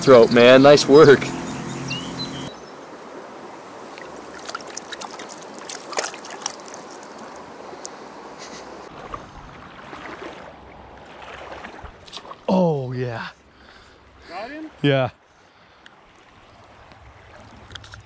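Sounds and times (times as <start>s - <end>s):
creek running over stones: 2.5s - 18.0s
light water splashes: 2.5s - 18.0s.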